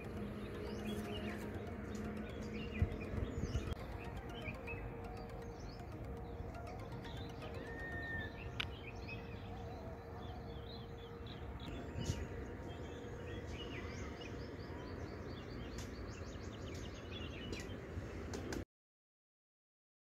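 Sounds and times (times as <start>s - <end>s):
small birds chirping: 0.0s - 17.9s
outdoor background noise: 0.0s - 18.6s.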